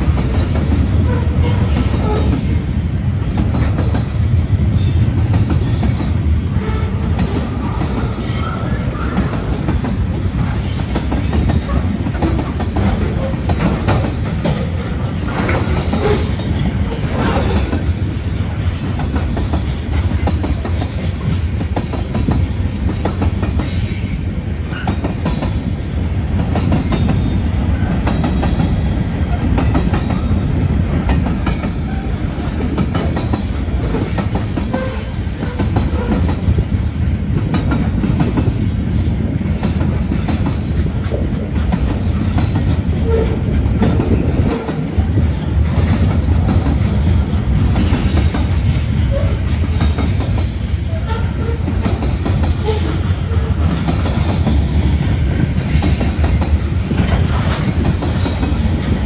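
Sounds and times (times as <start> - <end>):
wheels clacking over rail joints: 0.0 - 23.9, 26.3 - 59.0
freight train rumble: 0.0 - 59.0.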